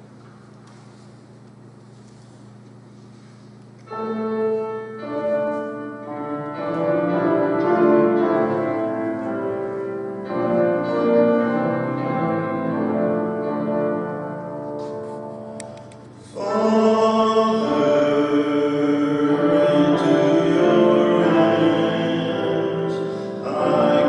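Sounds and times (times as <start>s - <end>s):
church keyboard playing chords: 0.0s - 24.0s.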